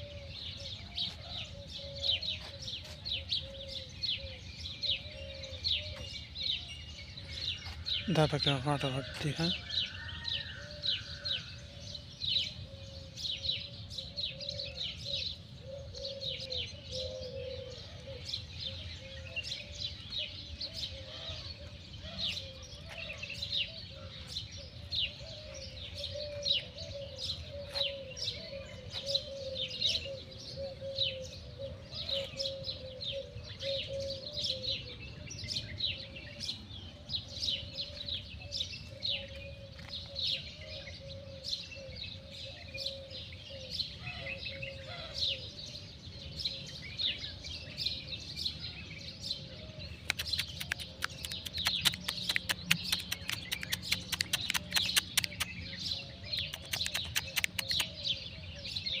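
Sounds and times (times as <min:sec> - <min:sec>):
small birds chirping: 0:00.0 - 0:09.6, 0:11.1 - 0:59.0.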